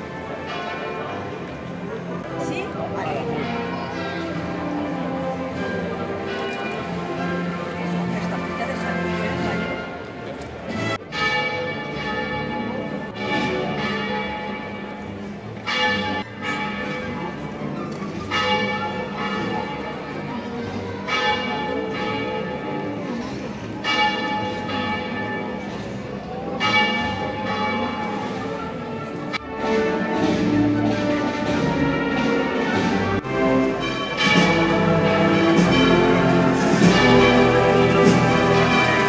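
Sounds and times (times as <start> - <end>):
church bell tolling: 0.0 - 10.2, 10.9 - 39.0.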